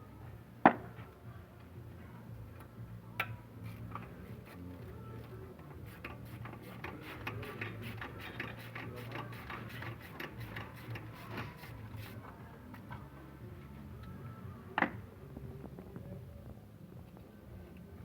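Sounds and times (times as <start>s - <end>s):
faint background music: 0.0s - 18.0s
steady low hum: 0.0s - 18.0s.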